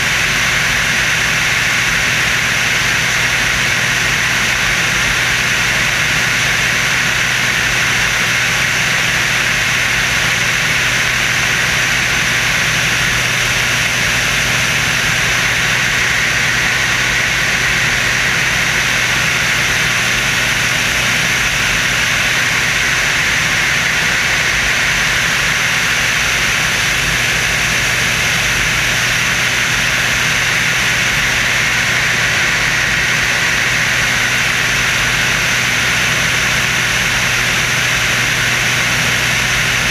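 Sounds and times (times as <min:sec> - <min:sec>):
airplane engine drone and rushing air: 0:00.0 - 0:39.9.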